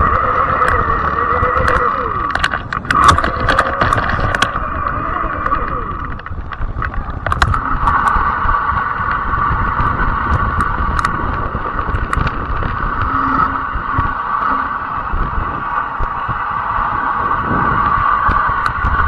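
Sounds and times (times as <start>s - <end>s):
electric bike motor humming: 0.0s - 19.0s
wind on microphone: 0.0s - 19.0s.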